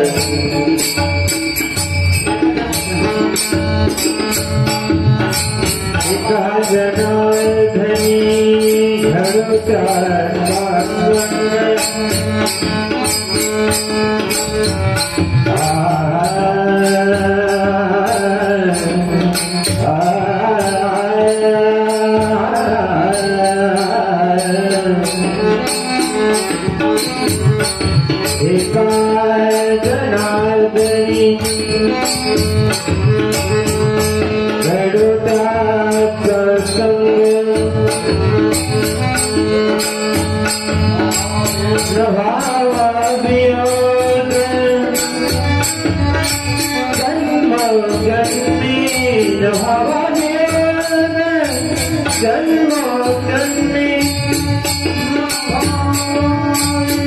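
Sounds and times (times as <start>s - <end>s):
man singing: 0.0s - 13.0s, 15.0s - 26.2s, 27.4s - 57.0s.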